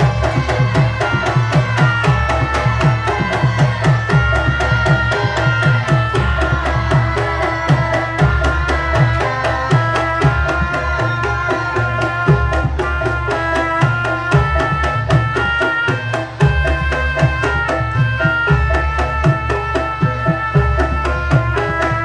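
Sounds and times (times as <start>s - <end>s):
hand drum strokes: 0.0s - 22.0s.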